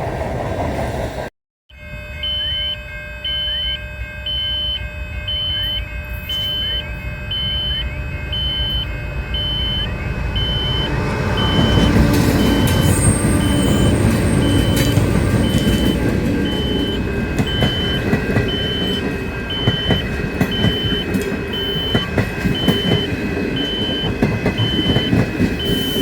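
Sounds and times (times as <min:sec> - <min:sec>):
approaching train rumble: 0:00.0 - 0:01.3, 0:05.6 - 0:26.0
level crossing alarm beeping: 0:01.7 - 0:26.0.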